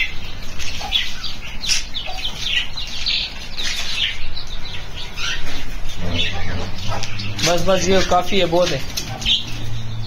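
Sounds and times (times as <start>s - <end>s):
parakeets chirping: 0.0s - 10.0s.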